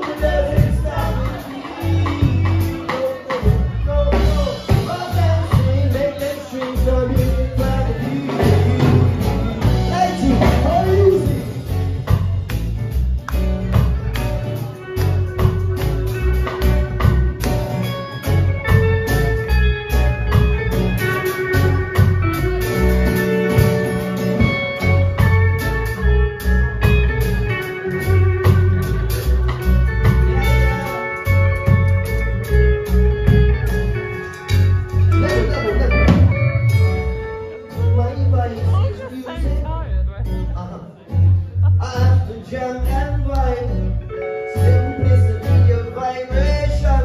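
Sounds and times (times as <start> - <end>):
drum kit beat: 0.0 - 40.4
electric guitar: 0.0 - 47.0
strummed acoustic guitar: 0.0 - 47.0.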